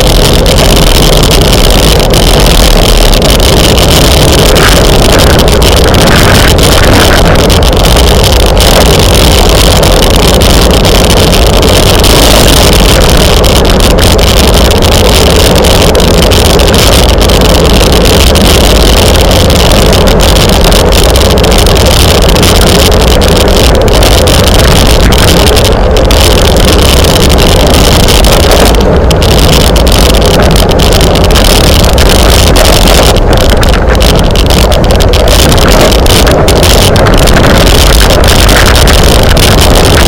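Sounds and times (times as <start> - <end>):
loud wind rush on microphone: 0.0 - 40.0.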